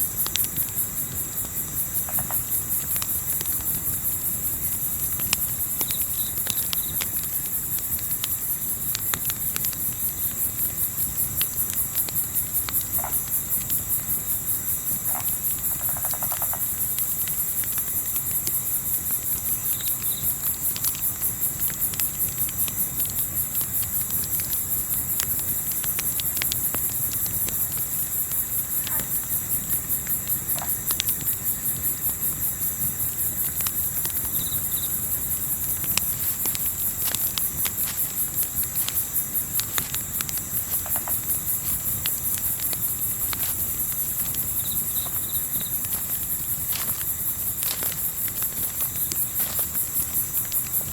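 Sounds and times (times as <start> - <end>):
campfire crackling and popping: 0.0 - 50.9
crickets trilling: 0.0 - 50.9.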